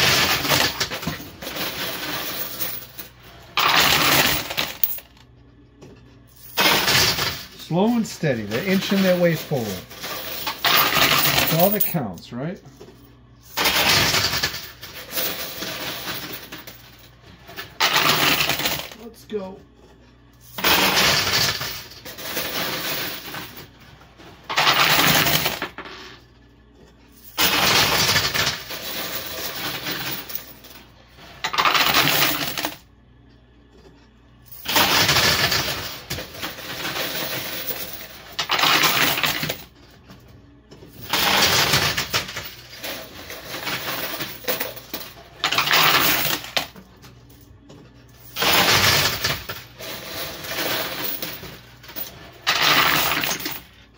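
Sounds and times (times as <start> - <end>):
coins clattering onto metal: 0.0 - 5.2, 6.4 - 12.0, 13.4 - 19.1, 20.4 - 23.8, 24.4 - 26.2, 27.1 - 32.8, 34.5 - 39.7, 40.9 - 47.4, 48.2 - 53.8.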